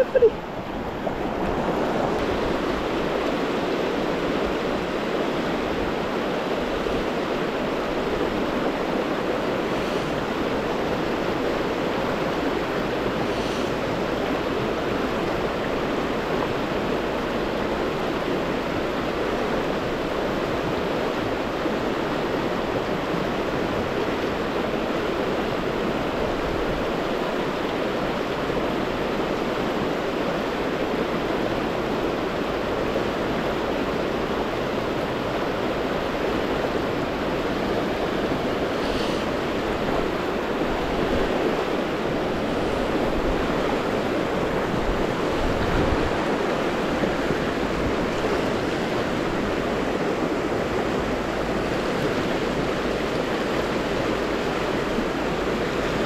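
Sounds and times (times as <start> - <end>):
river rapid rushing: 0.0 - 56.0.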